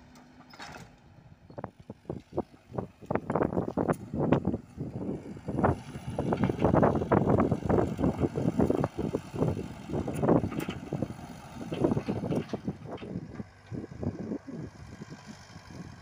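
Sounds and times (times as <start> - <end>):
mini excavator running: 0.0 - 16.0.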